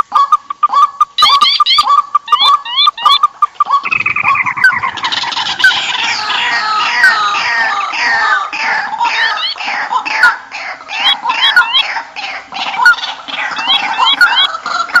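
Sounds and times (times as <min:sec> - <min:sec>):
chorus of birds chirping: 0:00.0 - 0:15.0
repeated bird call: 0:00.0 - 0:15.0.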